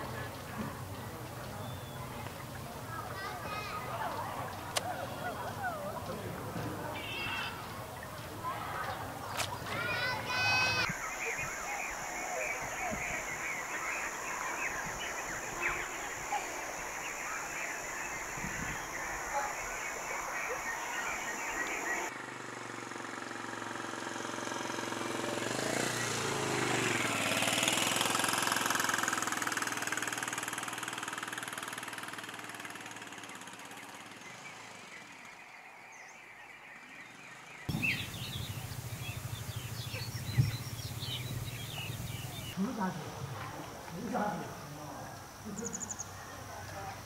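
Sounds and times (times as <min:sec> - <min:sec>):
engine passing by: 0:00.0 - 0:47.0.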